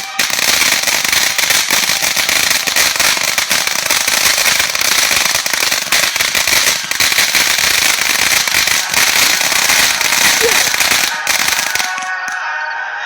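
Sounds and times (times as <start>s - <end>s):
fireworks crackling: 0.0s - 12.4s.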